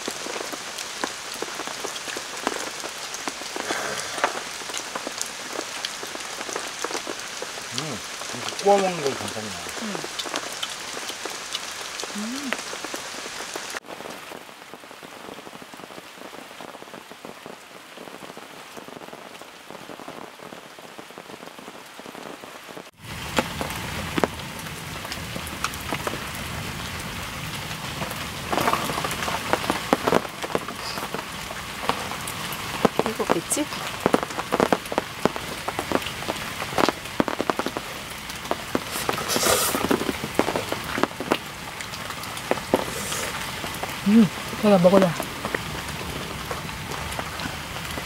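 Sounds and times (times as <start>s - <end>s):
heavy rain pouring: 0.0s - 48.0s
sharp rain taps: 0.0s - 48.0s.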